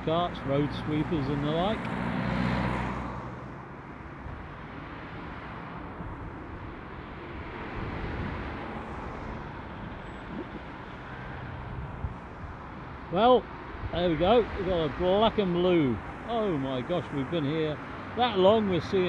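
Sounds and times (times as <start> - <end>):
car passing: 0.0 - 19.0
hum of traffic: 0.0 - 19.0.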